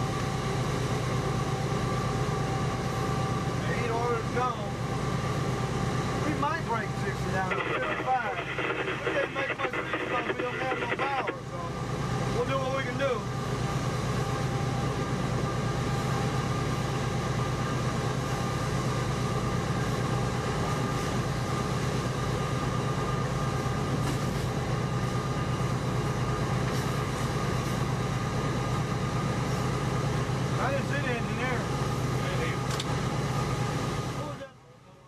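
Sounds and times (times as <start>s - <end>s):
constant low hum: 0.0s - 35.0s
steady whine: 0.0s - 35.0s.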